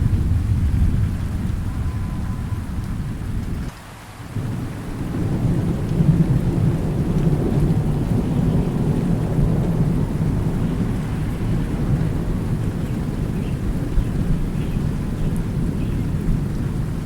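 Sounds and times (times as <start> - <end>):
rolling thunder: 0.0 - 3.7, 4.3 - 17.0
steady rain: 0.0 - 17.0.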